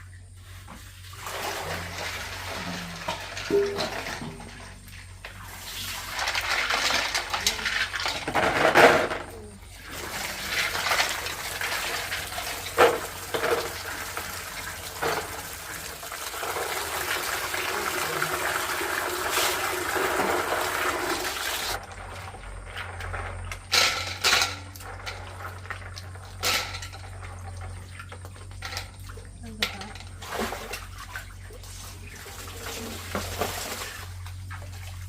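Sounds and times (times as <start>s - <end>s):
water running and splashing: 0.0s - 8.2s, 9.5s - 35.0s.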